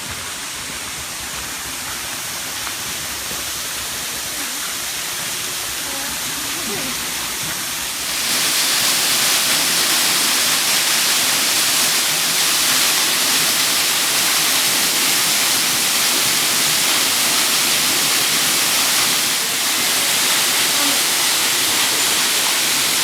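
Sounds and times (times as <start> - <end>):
waterfall rushing: 0.4 - 23.0.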